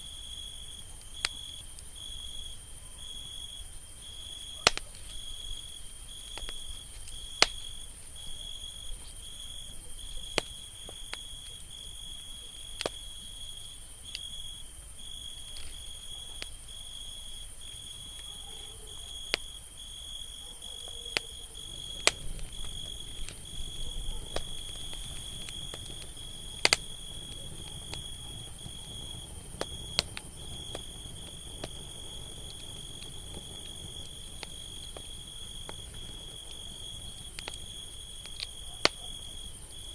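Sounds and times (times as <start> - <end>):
campfire crackling and popping: 0.3 - 2.6, 4.0 - 18.4, 19.0 - 19.8, 20.9 - 39.9.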